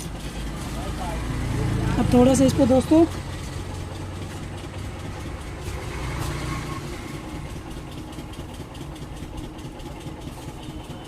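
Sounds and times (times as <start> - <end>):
machine engine rumble: 0.0 - 11.0.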